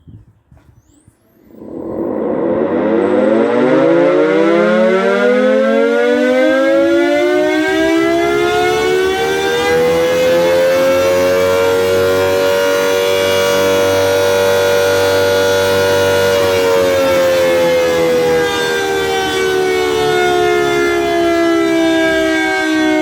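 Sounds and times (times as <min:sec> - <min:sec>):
air raid siren wail: 0:01.3 - 0:23.0.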